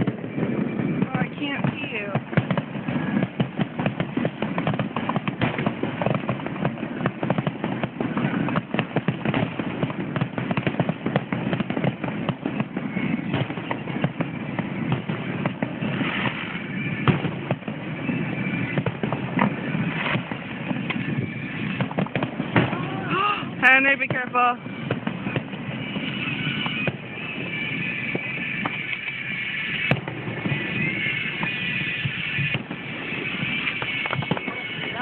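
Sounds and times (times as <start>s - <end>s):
firework bang: 0.0s - 35.0s
fireworks popping and crackling: 0.0s - 35.0s.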